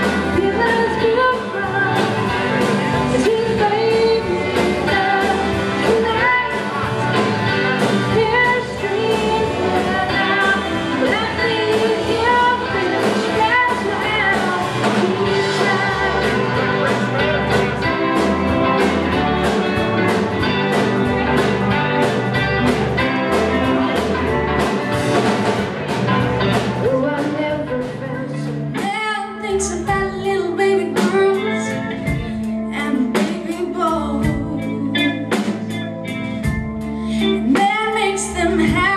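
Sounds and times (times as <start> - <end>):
electric guitar and drums song: 0.0 - 38.9
live band with singing: 0.0 - 38.9.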